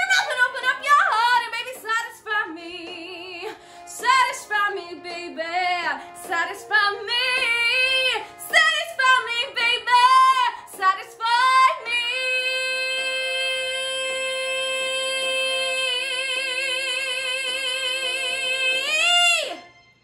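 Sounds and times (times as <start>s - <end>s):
woman singing: 0.0s - 19.7s.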